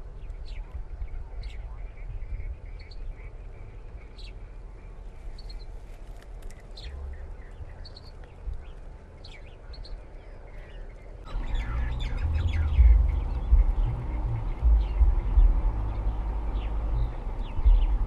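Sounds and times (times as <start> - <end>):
low uneven rumble: 0.0 - 18.0
small birds chirping: 0.0 - 18.0.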